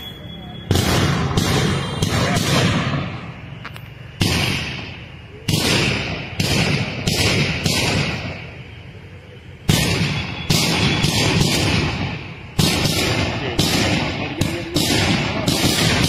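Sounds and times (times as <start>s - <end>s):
firecracker booms: 0.6s - 8.9s, 9.5s - 16.0s.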